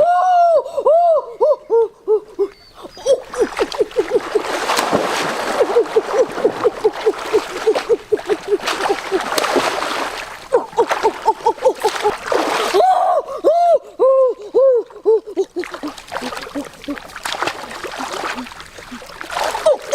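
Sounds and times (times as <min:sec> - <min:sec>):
splashing water: 0:02.8 - 0:13.4, 0:14.4 - 0:19.9.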